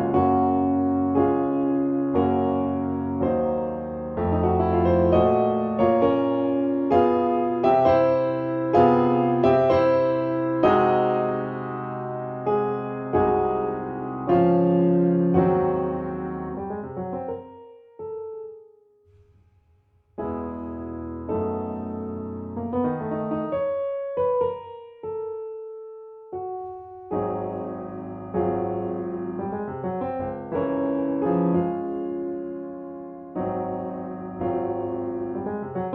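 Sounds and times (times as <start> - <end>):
soft piano piece: 0.0 - 35.9.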